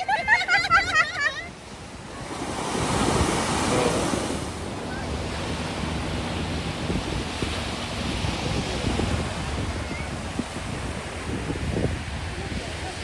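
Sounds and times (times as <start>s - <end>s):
ocean wave breaking: 0.0s - 13.0s
surf washing: 0.0s - 13.0s
wind buffeting microphone: 0.0s - 13.0s.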